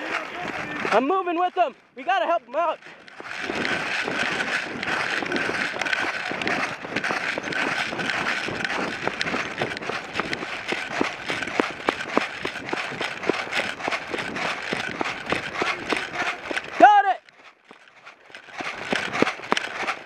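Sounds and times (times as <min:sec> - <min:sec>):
running footsteps on dry dirt: 0:00.0 - 0:20.0.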